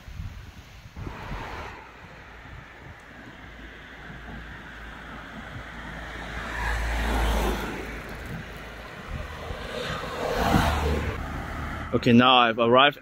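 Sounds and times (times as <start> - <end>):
cars passing: 0.9 - 12.8.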